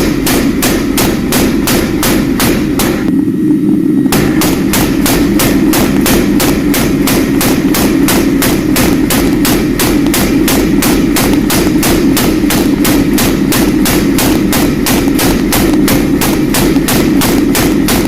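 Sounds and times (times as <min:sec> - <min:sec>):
steady low drone: 0:00.0 - 0:18.0.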